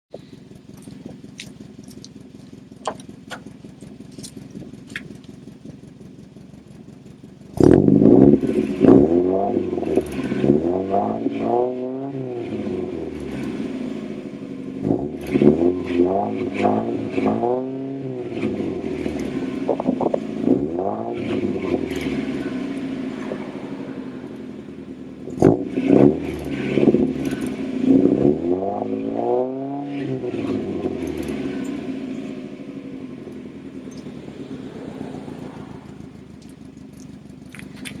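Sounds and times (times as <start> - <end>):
car engine revving and idling: 0.0 - 38.0
exhaust cracks: 0.1 - 38.0.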